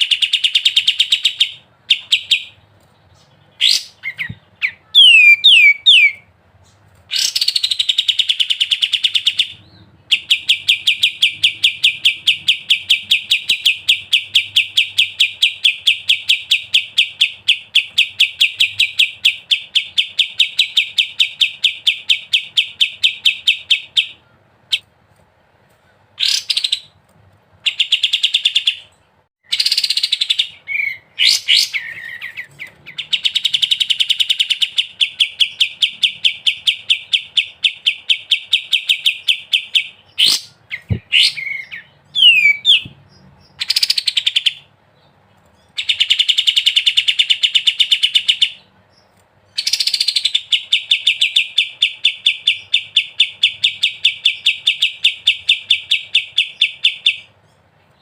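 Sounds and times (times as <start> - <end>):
songbird trilling and whistling: 0.0 - 6.3, 7.1 - 24.8, 26.2 - 27.0, 27.7 - 57.3.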